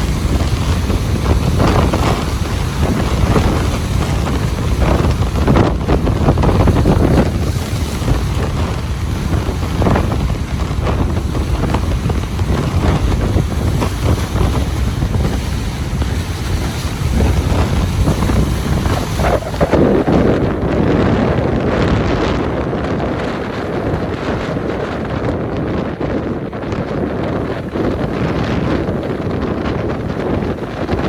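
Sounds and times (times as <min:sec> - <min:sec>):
ocean waves breaking: 0:00.0 - 0:25.6
wind buffeting microphone: 0:00.0 - 0:31.0.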